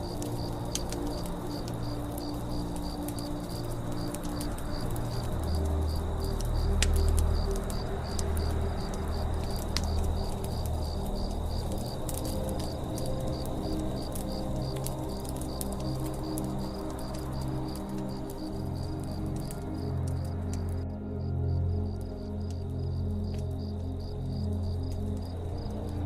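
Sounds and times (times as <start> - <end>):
campfire crackling and popping: 0.0 - 26.0
cricket chirping: 0.0 - 26.0.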